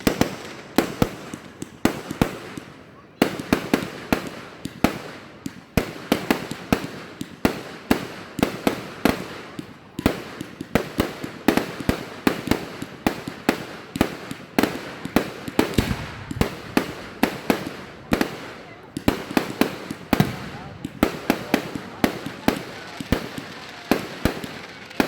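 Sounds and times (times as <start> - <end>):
fireworks banging: 0.0 - 25.0.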